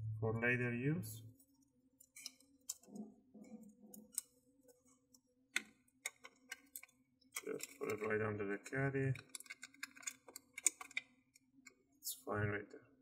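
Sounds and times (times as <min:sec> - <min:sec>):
small parts clicking and tapping: 0:01.4 - 0:11.9.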